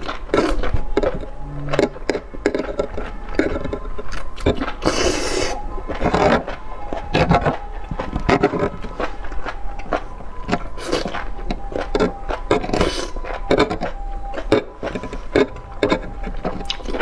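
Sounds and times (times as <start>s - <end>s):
slurping: 0.0s - 17.0s
wet chewing: 0.0s - 17.0s.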